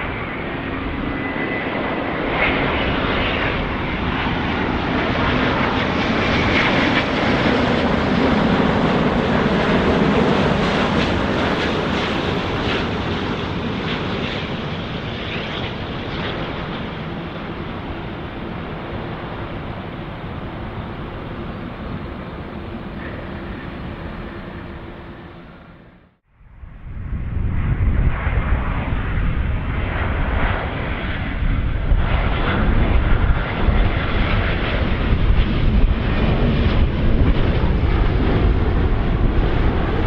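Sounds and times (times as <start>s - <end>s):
jet airliner passing overhead: 0.0s - 40.0s.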